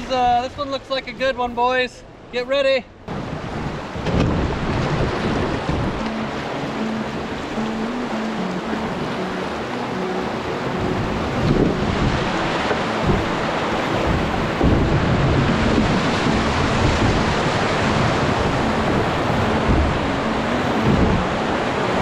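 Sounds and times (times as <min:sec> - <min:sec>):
whitewater rushing and splashing: 0:00.0 - 0:22.0.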